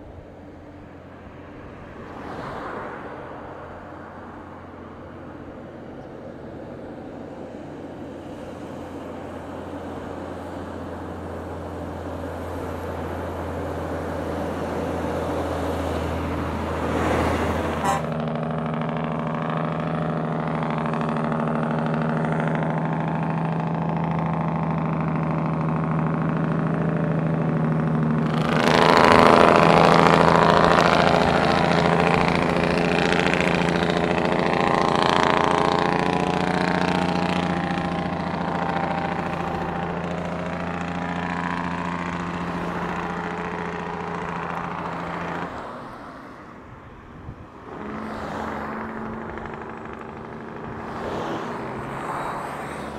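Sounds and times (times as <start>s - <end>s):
loud noisy engine: 3.2s - 52.9s
diesel truck engine running: 3.8s - 52.9s.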